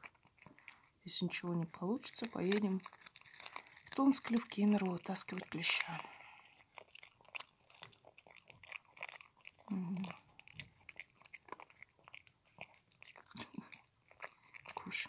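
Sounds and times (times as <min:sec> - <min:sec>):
dog crunching a treat: 0:00.0 - 0:15.0.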